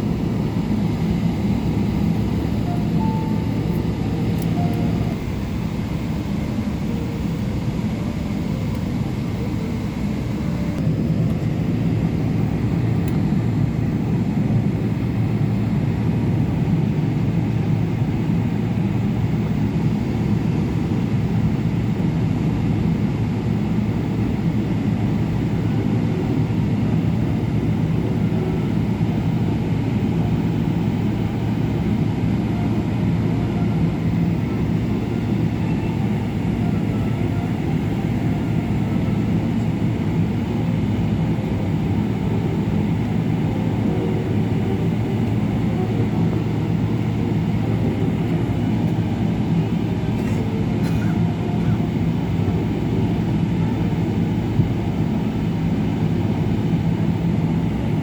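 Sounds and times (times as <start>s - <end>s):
jet engines idling rumble: 0.0s - 58.0s.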